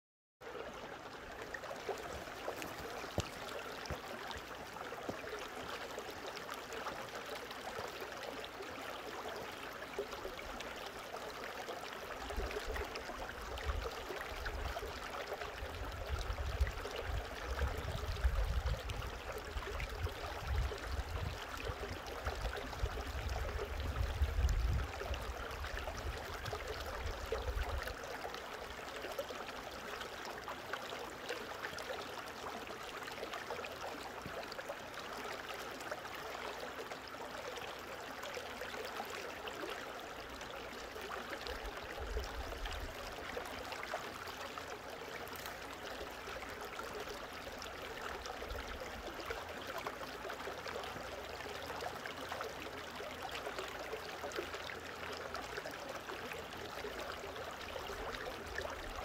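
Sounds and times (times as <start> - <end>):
stream flowing over rocks: 0.4 - 59.0.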